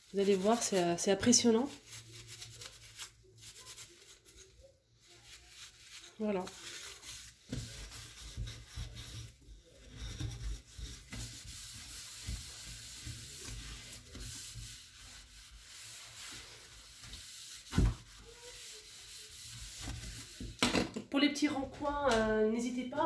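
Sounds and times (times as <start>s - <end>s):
sponge scrubbing steel sink: 0.0s - 20.6s.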